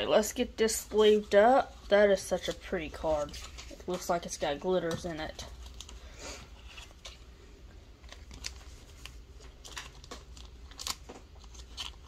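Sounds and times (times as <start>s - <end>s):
plastic sleeve crinkling: 0.3s - 7.3s, 7.9s - 12.0s.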